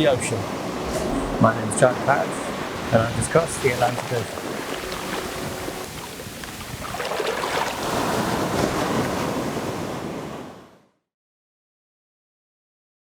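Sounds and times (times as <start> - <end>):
wind and waves on microphone: 0.0 - 10.9.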